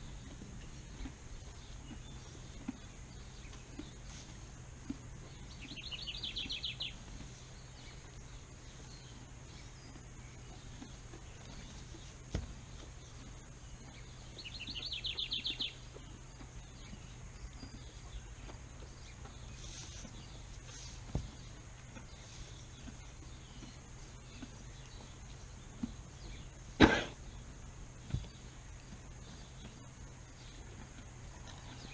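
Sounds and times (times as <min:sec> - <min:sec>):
songbird trill: 0:00.0 - 0:31.9
steady low hum: 0:00.0 - 0:31.9.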